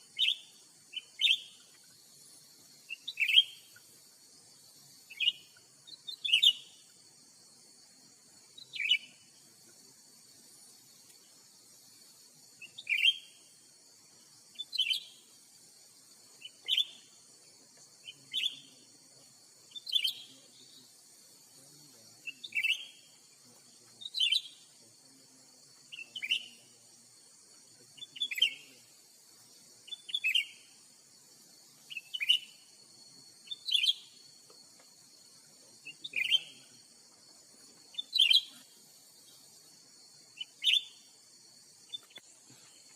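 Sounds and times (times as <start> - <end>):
high insect drone: 0.0 - 42.9.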